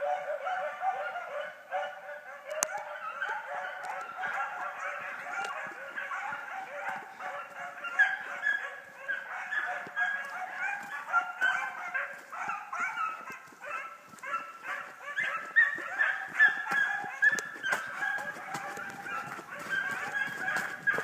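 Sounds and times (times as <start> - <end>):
hounds baying in chorus: 0.0 - 21.0.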